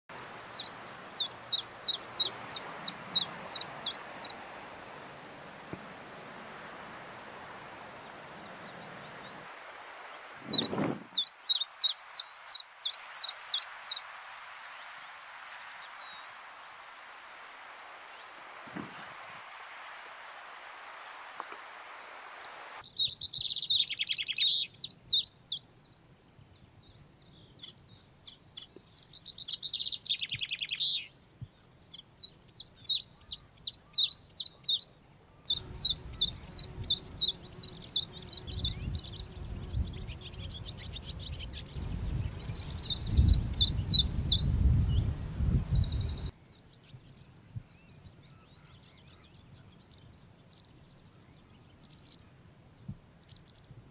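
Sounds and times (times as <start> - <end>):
warbler song: 0.1 - 20.4, 22.1 - 53.9.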